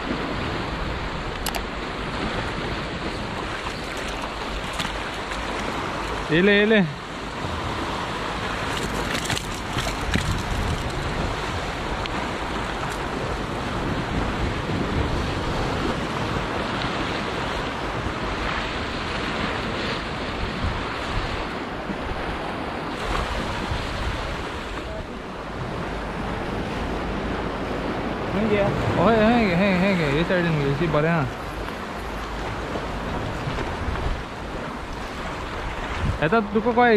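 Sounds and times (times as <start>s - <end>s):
surf breaking over rocks: 0.0s - 36.9s
wind buffeting microphone: 7.0s - 36.7s.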